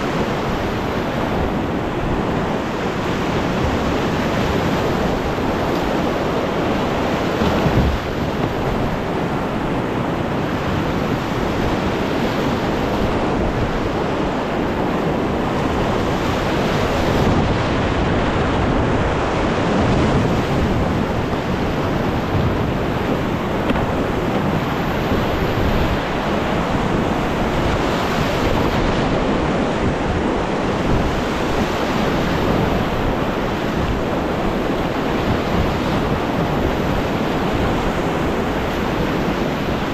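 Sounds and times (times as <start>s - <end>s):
whitewater rushing: 0.0s - 39.9s
wind buffeting microphone: 0.0s - 39.9s.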